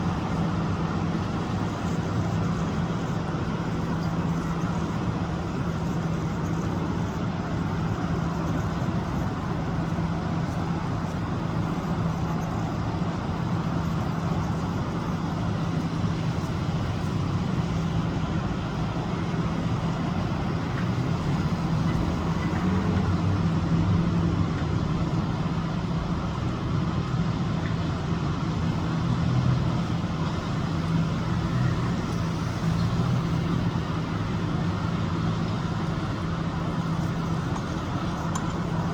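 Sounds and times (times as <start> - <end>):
machinery engine droning: 0.0 - 38.9.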